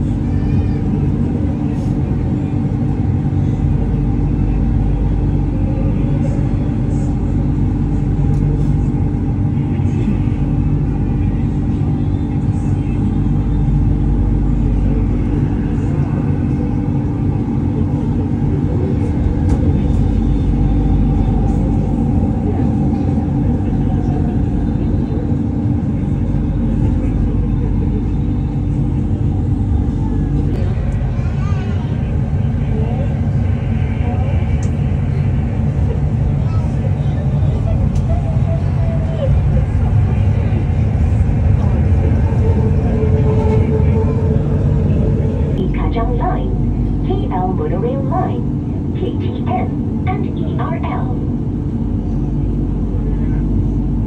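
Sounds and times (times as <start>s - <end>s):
train rumbling on track: 0.0s - 54.0s.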